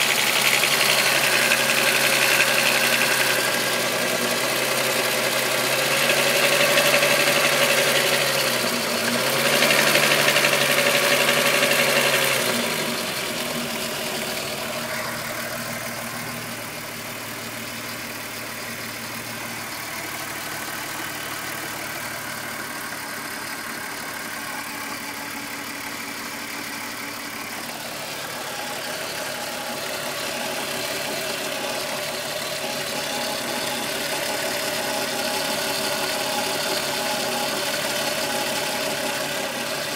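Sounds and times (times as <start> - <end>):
car engine revving: 0.0 - 39.8
car engine idling: 0.0 - 39.9.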